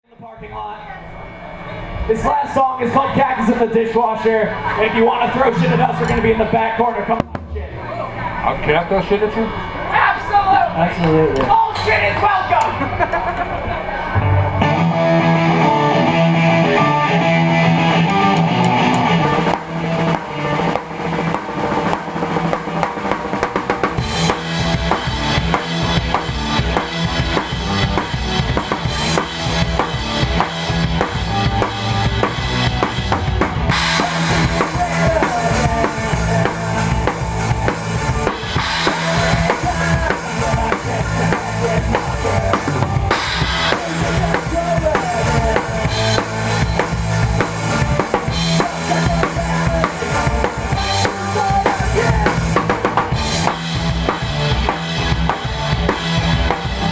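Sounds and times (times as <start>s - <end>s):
rock band playing live: 0.9s - 56.9s
drum kit beat: 5.1s - 8.4s, 14.3s - 56.9s.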